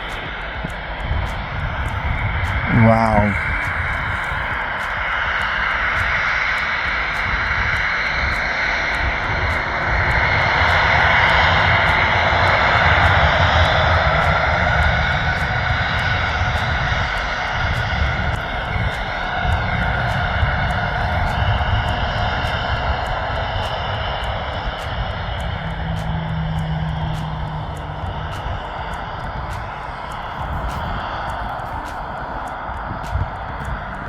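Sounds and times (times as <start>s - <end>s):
faint gliding whine: 0.0s - 34.0s
jet engines running: 0.0s - 34.0s.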